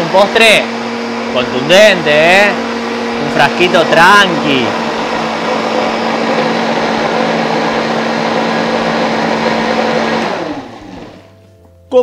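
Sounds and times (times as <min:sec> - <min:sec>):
blender motor winding down: 0:00.0 - 0:11.3
blender running: 0:00.0 - 0:11.3.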